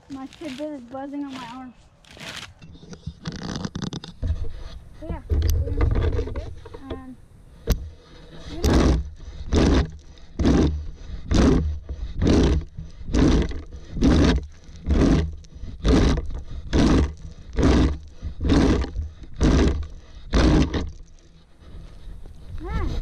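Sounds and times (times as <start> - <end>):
plastic rake scraping through grass: 0.0 - 7.1, 7.8 - 23.0.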